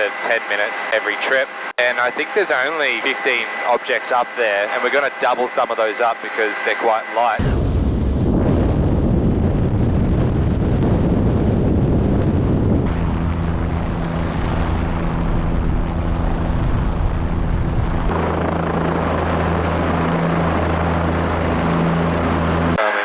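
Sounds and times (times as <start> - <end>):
helicopter flying: 0.0 - 23.0.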